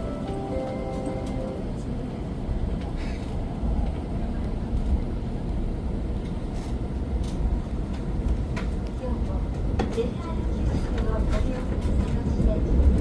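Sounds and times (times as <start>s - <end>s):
low rumble inside train car: 0.0s - 13.0s.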